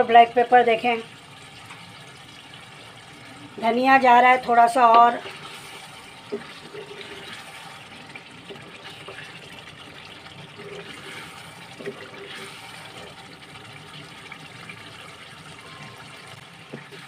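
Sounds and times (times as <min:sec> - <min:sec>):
spatula stirring simmering sauce: 0:01.4 - 0:17.0.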